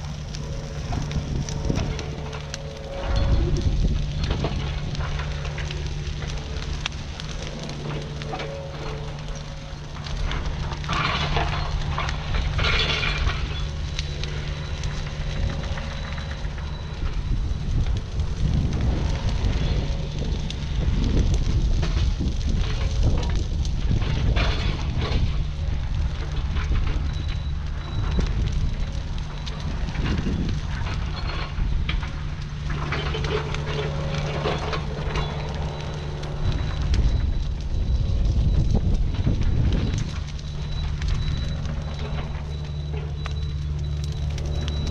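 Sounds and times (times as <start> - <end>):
excavator engine running: 0.0 - 44.9
fire crackling: 0.0 - 44.9
wood cracking and breaking: 0.0 - 44.9.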